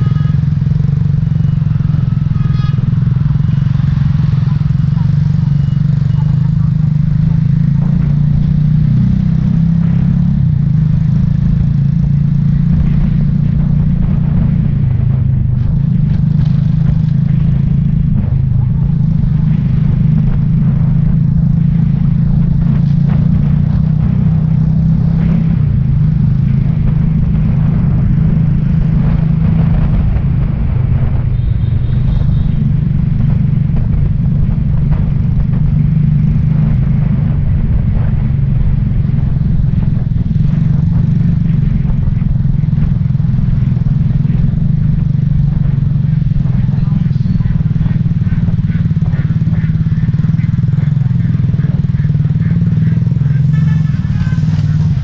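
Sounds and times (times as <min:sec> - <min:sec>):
motorbike engine hum: 0:00.0 - 0:55.0
road noise: 0:00.0 - 0:55.0
wind rumble on microphone: 0:00.0 - 0:55.0.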